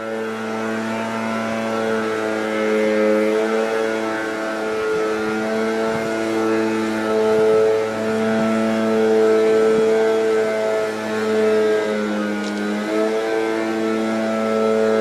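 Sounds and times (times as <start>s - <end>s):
sustained melody notes: 0.0s - 15.0s.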